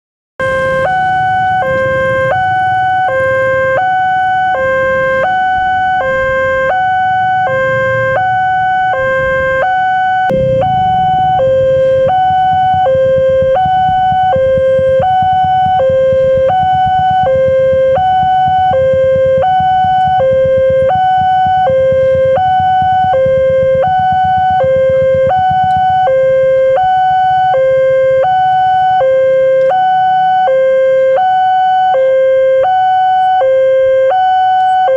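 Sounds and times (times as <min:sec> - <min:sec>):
two-tone crossing alarm: 0:00.4 - 0:34.9
low engine rumble: 0:00.6 - 0:31.9.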